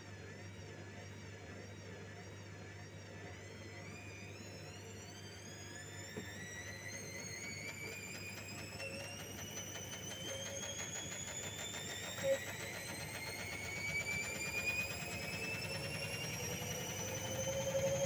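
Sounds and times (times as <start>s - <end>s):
washing machine motor whining: 0.0s - 18.0s.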